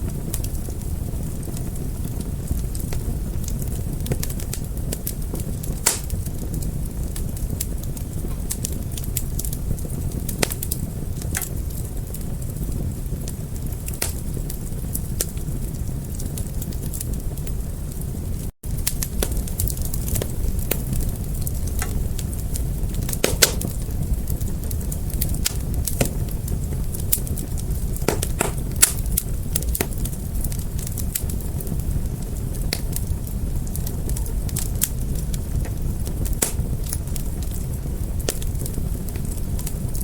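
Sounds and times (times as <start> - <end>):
fire pops and snaps: 0.0 - 40.0
wood fire crackling: 0.0 - 40.0.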